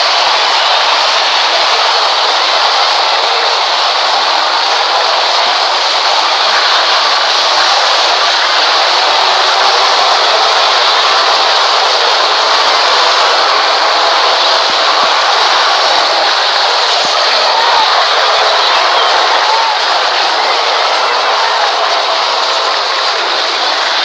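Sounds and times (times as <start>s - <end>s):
freight train passing: 0.0s - 24.0s.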